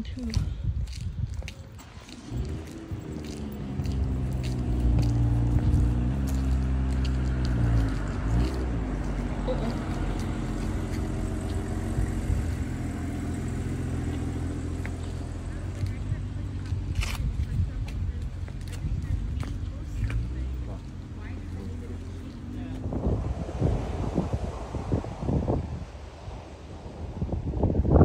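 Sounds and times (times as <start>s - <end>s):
vehicle engine running: 1.3s - 27.2s.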